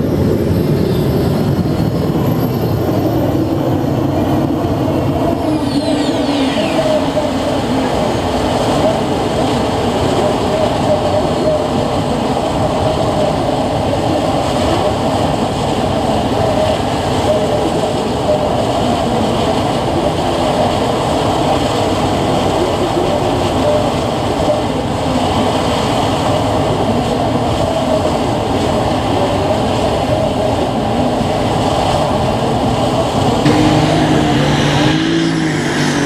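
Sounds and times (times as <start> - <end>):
engine roar: 0.0 - 36.0.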